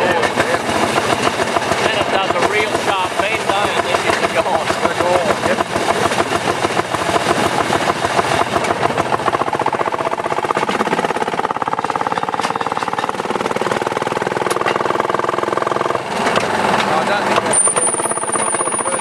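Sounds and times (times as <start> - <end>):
small rail car engine running: 0.0 - 19.0.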